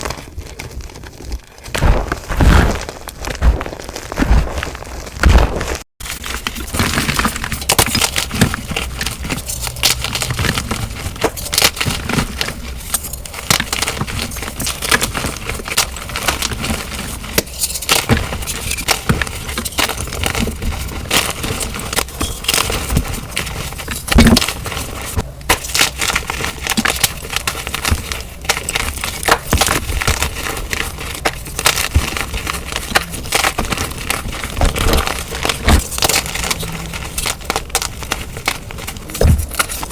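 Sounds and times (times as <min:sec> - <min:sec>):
chalk blocks crunching by hand: 0:00.0 - 0:39.9.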